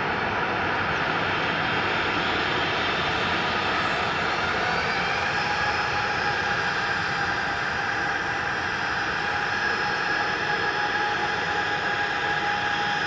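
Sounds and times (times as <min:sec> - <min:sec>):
jet engine whine: 0:00.0 - 0:13.0.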